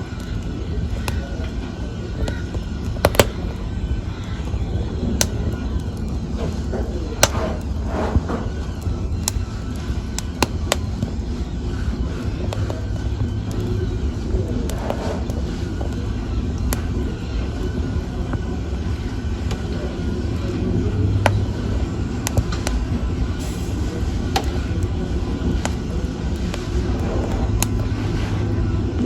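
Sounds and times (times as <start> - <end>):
fire low rumble: 0.0 - 29.0
wood fire crackling and popping: 0.0 - 29.0.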